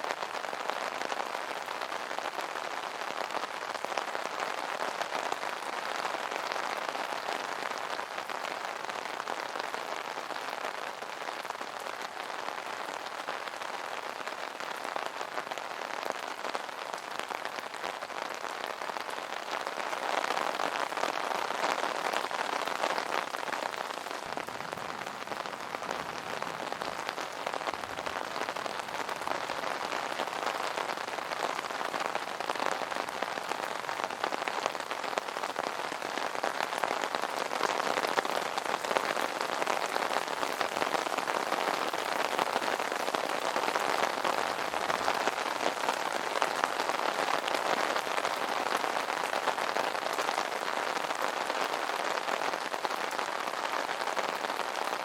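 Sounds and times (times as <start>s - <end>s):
rain pattering on umbrella: 0.0s - 55.0s.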